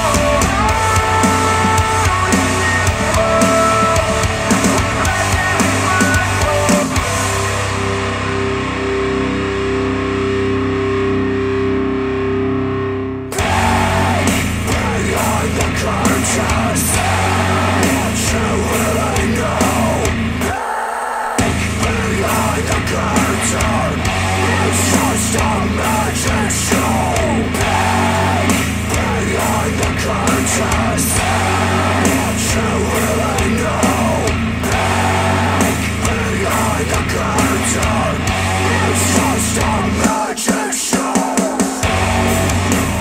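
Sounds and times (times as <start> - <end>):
steady bass line: 0.0 - 20.5, 21.4 - 40.2, 41.8 - 43.0
song through speakers: 0.0 - 43.0.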